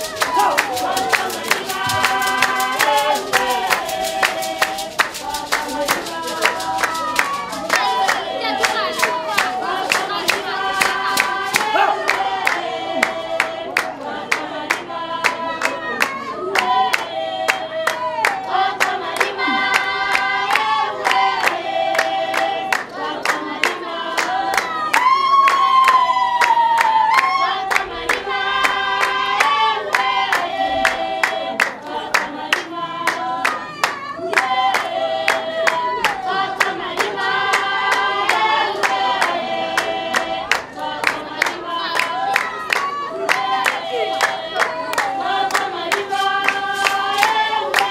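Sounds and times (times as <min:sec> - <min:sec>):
group singing: 0:00.0 - 0:47.9
hand-clapping: 0:00.0 - 0:47.9.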